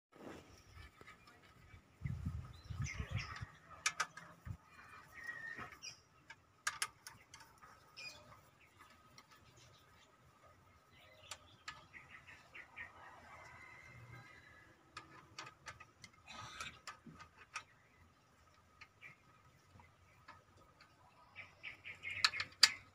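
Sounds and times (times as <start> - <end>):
small birds chirping: 0.2 - 22.9.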